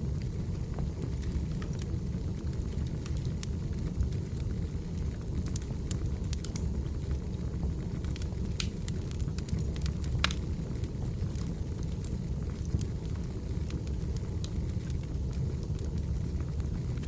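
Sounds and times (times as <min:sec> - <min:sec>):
burning logs crackling and popping: 0:00.0 - 0:17.0
low rumble of flames: 0:00.0 - 0:17.0.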